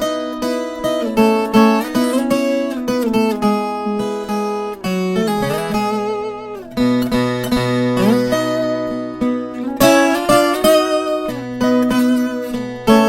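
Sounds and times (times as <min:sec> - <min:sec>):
steel-strung guitar plucking and strumming: 0:00.0 - 0:13.0.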